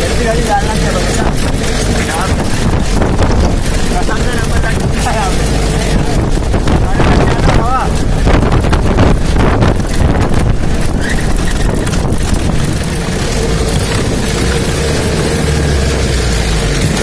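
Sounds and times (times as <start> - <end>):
jeep engine running: 0.0 - 17.0
wind buffeting microphone: 0.0 - 17.0.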